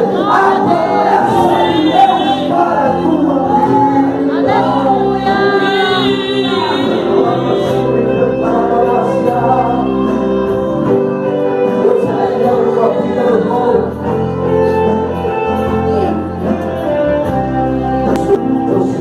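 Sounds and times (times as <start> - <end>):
congregation singing: 0.0 - 17.0
sustained organ chords: 0.1 - 19.0.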